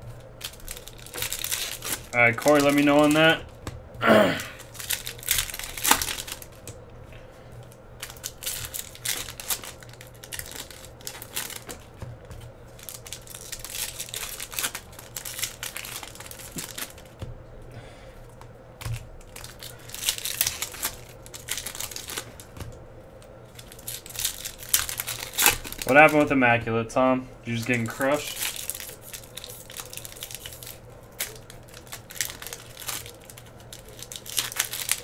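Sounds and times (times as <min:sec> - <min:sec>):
foil wrappers crinkling and tearing: 0:00.1 - 0:03.6, 0:04.4 - 0:06.8, 0:07.6 - 0:17.2, 0:18.2 - 0:26.4, 0:27.5 - 0:35.0.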